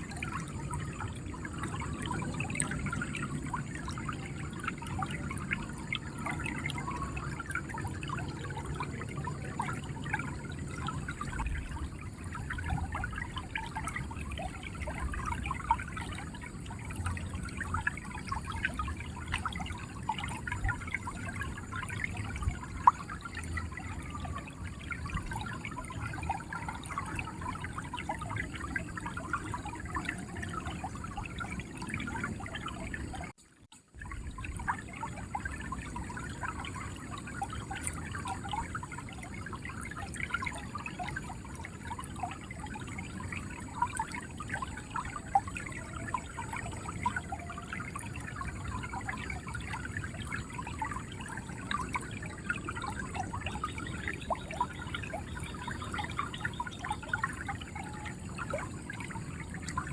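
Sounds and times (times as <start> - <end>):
river water flowing over stones: 0.0 - 59.9.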